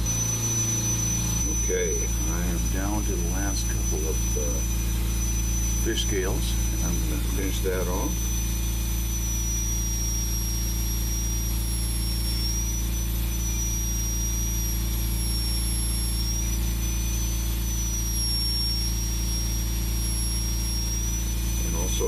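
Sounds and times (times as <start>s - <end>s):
power carver high-pitched whine: 0.0s - 22.0s
steady low hum: 0.0s - 22.0s.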